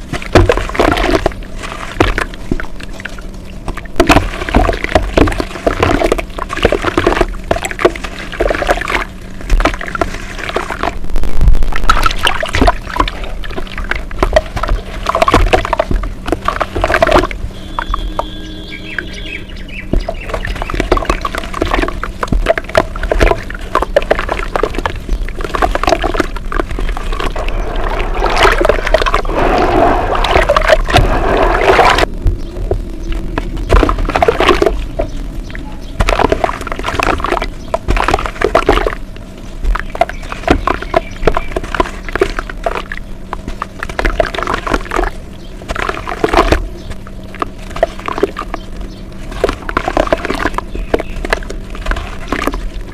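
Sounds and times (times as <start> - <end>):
dirt paste crunching: 0.0 - 52.9
wet squelching: 0.0 - 52.9.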